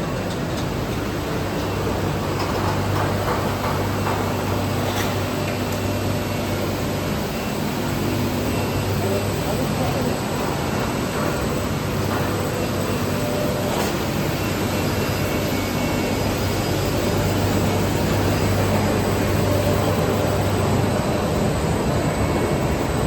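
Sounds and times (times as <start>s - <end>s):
constant low hum: 0.0s - 23.0s
furnace running noise: 0.0s - 23.0s.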